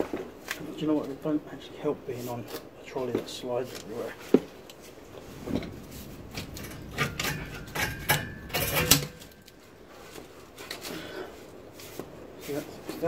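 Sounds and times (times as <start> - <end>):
rubbing and scraping handling noises: 2.0 - 13.0.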